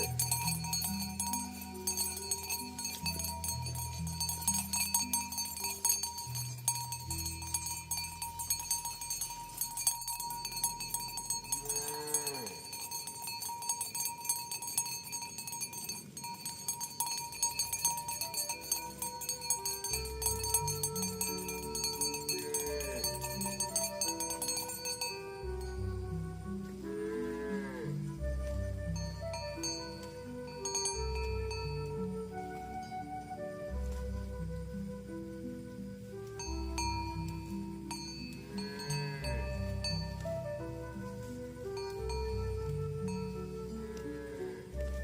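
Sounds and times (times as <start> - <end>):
cowbells ringing: 0.0 - 26.6, 27.7 - 33.2, 36.3 - 43.8
slow bass line music: 0.0 - 45.0.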